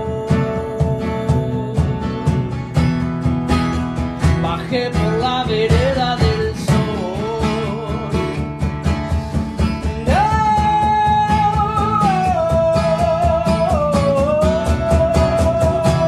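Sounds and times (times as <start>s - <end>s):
acoustic bass guitar: 0.0s - 16.0s
acoustic guitar: 0.0s - 16.0s
steady percussive beat: 0.0s - 16.0s.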